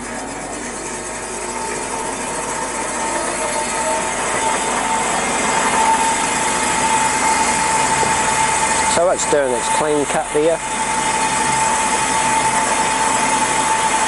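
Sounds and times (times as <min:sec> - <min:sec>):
bandsaw cutting wood: 0:00.0 - 0:14.0
steady high whine: 0:00.0 - 0:14.0.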